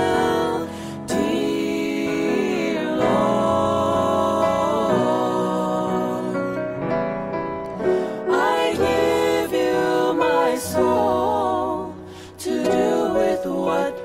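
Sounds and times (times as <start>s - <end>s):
person singing worship song: 0.0s - 6.8s, 7.8s - 14.0s
soft musical accompaniment: 0.0s - 14.0s.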